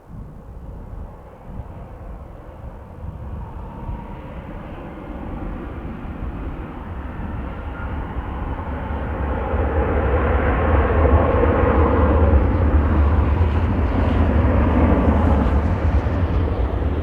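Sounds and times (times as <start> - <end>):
aircraft engines rumbling: 0.3 - 17.0.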